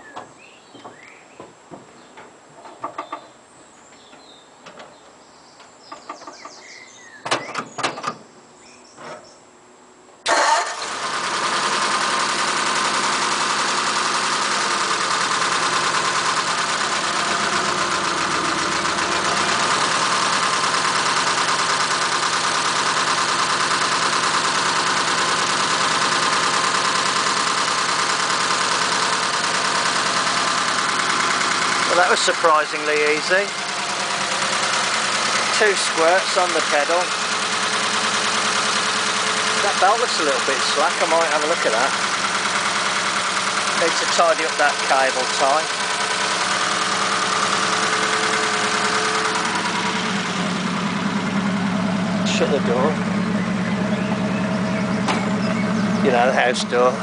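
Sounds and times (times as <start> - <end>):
engine starting and idling: 10.2 - 57.0.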